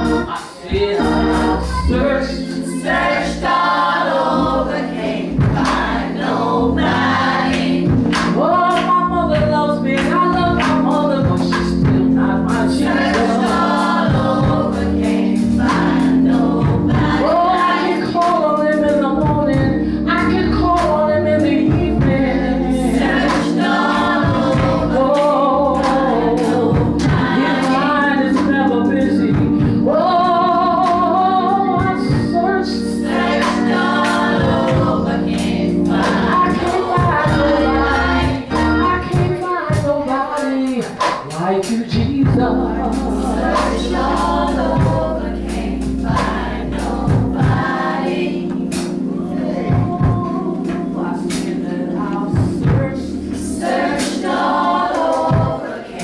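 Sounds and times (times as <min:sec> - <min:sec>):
sustained low instrumental chords: 0:00.0 - 0:39.4, 0:42.2 - 0:55.8
choir singing: 0:00.0 - 0:39.7, 0:42.2 - 0:56.0
woman singing lead: 0:00.0 - 0:56.0.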